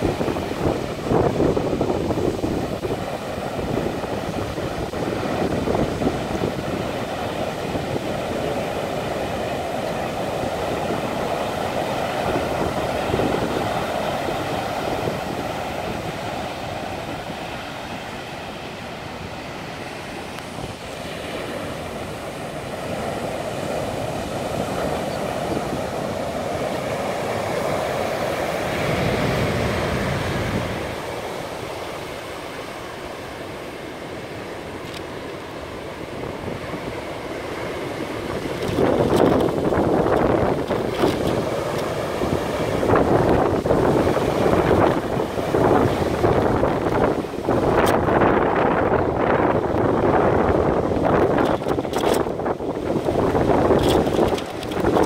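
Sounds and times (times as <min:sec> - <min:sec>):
heavy surf waves breaking: 0:00.0 - 0:55.0.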